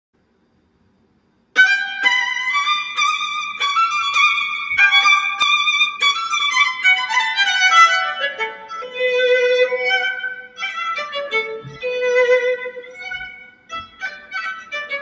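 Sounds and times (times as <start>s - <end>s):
solo violin melody: 1.6s - 15.0s.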